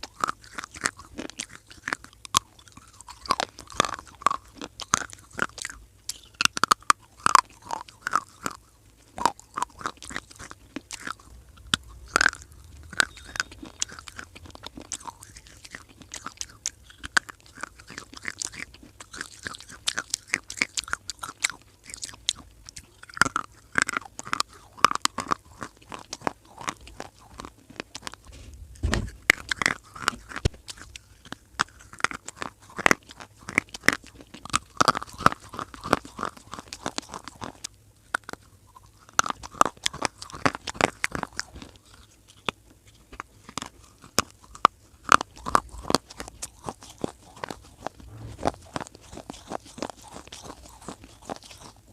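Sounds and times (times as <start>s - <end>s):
crunchy chewing of dry clay: 0.0s - 51.9s.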